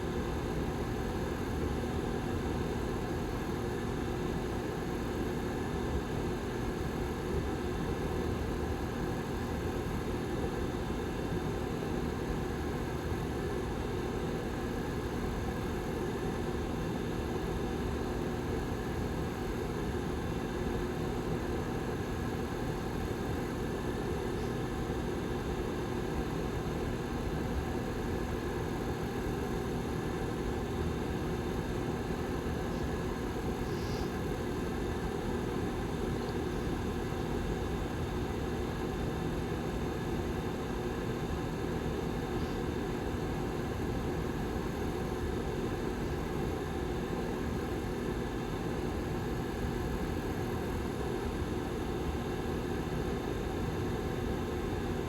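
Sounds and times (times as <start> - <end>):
faint steady hum: 0.0 - 55.0
heater fan running: 0.0 - 55.0.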